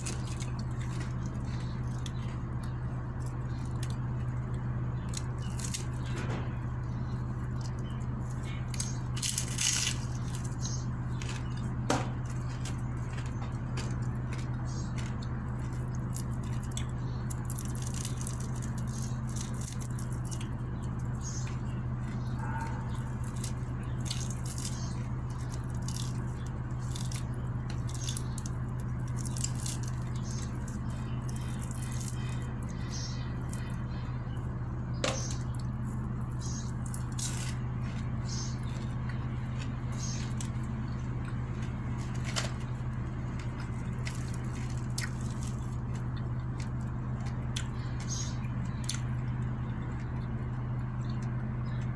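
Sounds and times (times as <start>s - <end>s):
chewing: 0.0s - 51.9s
steady low hum: 0.0s - 51.9s.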